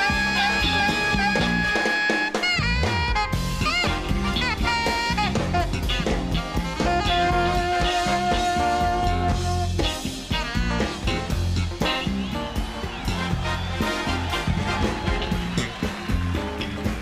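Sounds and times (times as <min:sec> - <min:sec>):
electric bass: 0:00.0 - 0:01.9, 0:02.5 - 0:17.0
alto saxophone: 0:00.0 - 0:17.0
drum kit: 0:00.0 - 0:17.0.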